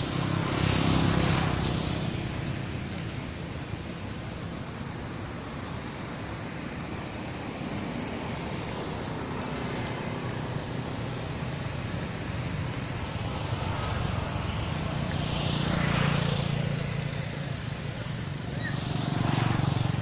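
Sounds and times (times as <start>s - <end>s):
low engine hum: 0.0s - 20.0s
steady outdoor hiss: 0.0s - 20.0s.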